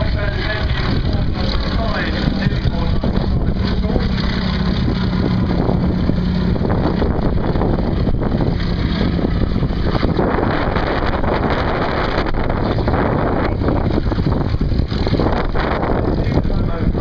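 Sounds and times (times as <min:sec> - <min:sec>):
engine drone: 0:00.0 - 0:17.0
wind noise on microphone: 0:00.0 - 0:17.0.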